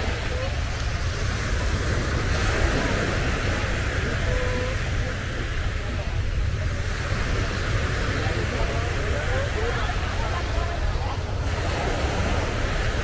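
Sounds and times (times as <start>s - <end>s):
surf washing on shore: 0.0s - 13.0s.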